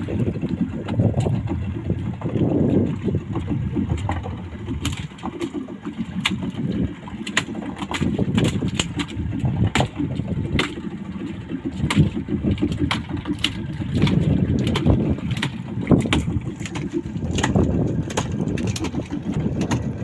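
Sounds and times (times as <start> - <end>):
outboard motor rumbling: 0.0 - 20.0
wind on microphone: 0.0 - 20.0.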